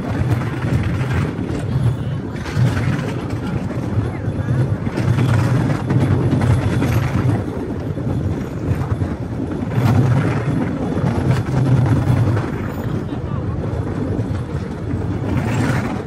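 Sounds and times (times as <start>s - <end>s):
wheels rumbling on track: 0.0s - 16.0s.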